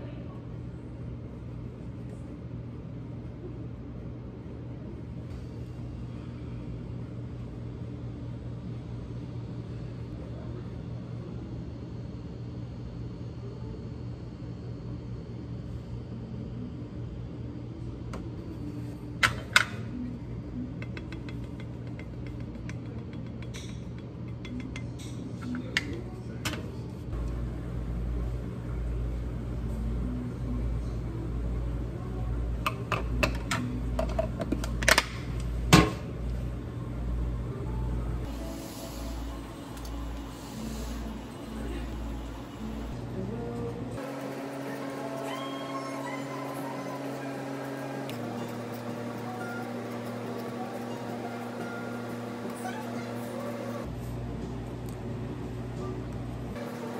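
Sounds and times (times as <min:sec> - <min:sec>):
machine hum: 0:00.0 - 0:56.9.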